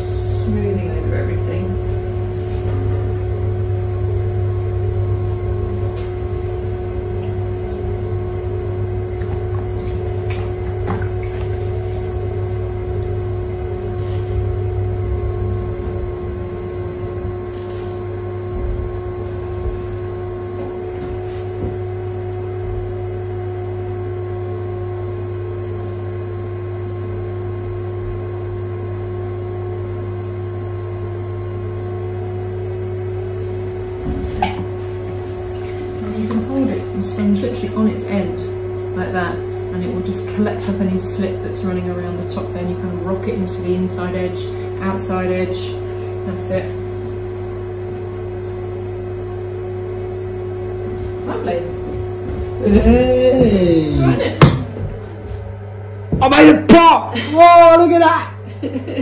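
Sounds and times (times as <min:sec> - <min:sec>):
potter's wheel motor humming: 0:00.0 - 0:59.0.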